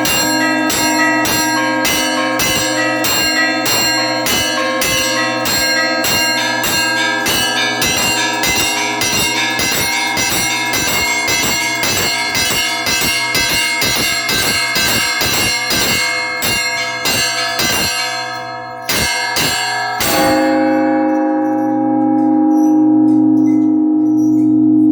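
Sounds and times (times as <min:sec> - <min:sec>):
church bells pealing: 0:00.0 - 0:24.9.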